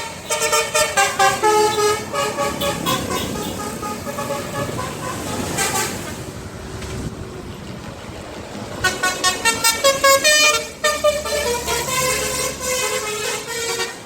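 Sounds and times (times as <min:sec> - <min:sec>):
multi-tone bus horn melody: 0:00.0 - 0:06.4, 0:08.7 - 0:14.0
bus engine and road noise: 0:00.0 - 0:14.0.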